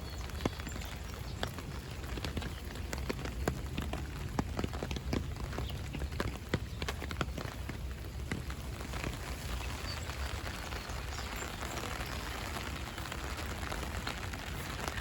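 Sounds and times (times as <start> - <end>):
rain pattering on umbrella: 0.0 - 15.0.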